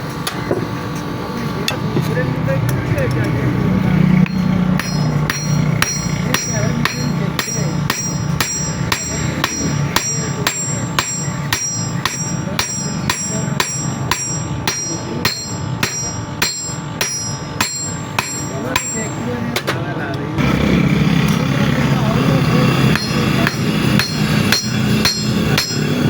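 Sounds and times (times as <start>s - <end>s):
hammer striking metal: 4.1s - 19.8s, 20.4s - 26.0s.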